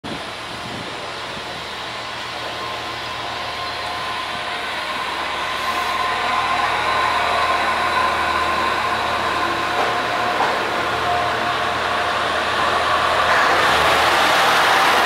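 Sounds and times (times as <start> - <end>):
high whine: 0.0 - 15.0
train machine hum: 0.0 - 15.0.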